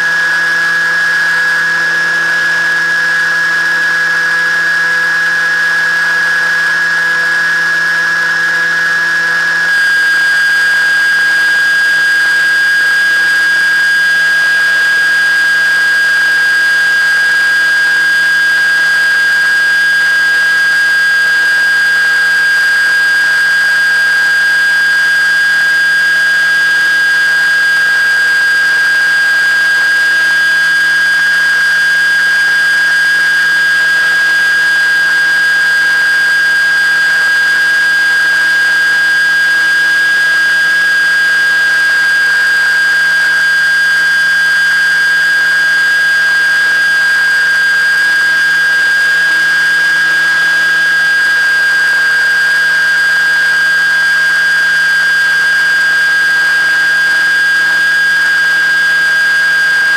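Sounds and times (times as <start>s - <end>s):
high-pitched motor whine: 0.0s - 59.9s.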